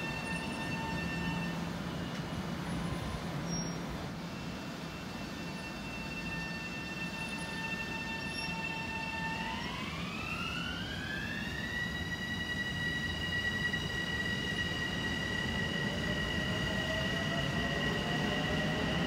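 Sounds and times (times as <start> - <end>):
train rumbling by: 0.0 - 19.0.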